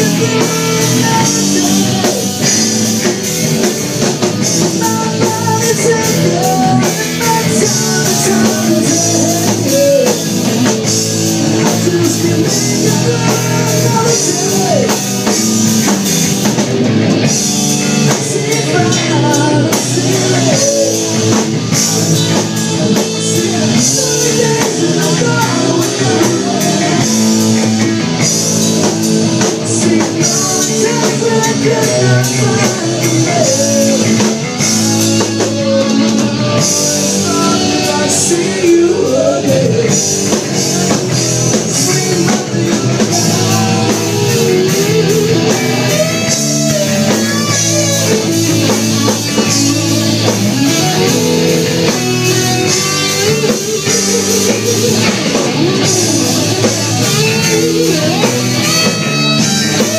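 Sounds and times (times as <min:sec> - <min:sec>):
drum kit: 0:00.0 - 0:59.9
electric bass: 0:00.0 - 0:59.9
electric guitar: 0:00.0 - 0:59.9
keyboard: 0:00.0 - 0:59.9.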